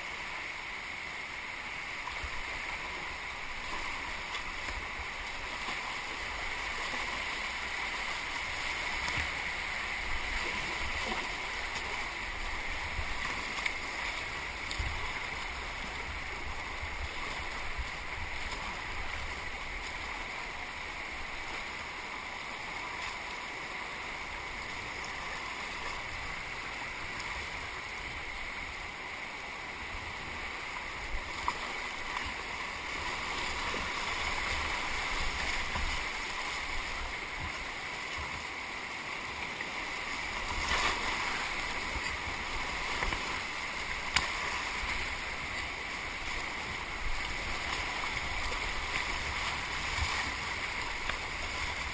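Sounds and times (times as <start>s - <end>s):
paddle strokes splashing: 0.0s - 51.9s
whitewater rushing: 0.0s - 51.9s.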